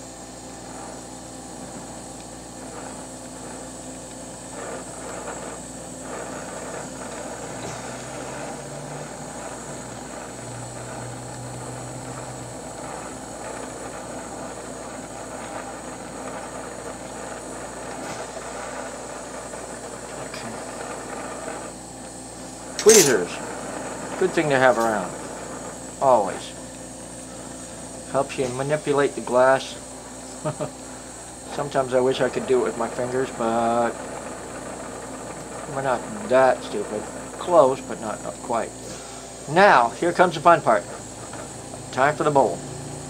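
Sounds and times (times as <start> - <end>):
torch flame hissing: 0.0 - 43.0.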